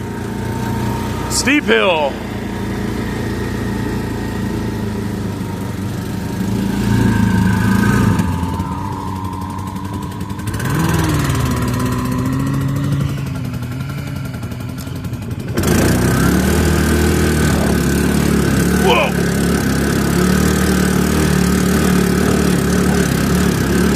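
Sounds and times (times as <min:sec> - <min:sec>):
atv engine revving: 0:00.0 - 0:23.9.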